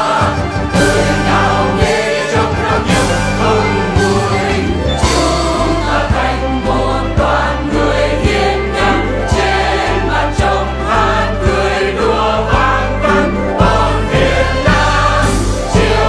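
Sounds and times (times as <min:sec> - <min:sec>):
choir singing over bass beat: 0:00.0 - 0:16.0.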